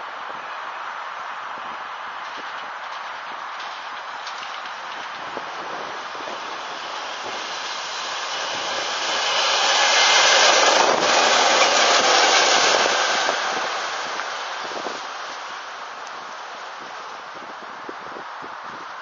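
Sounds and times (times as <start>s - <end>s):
diesel locomotive passing: 0.0s - 17.7s
wheels on rails: 0.0s - 19.0s.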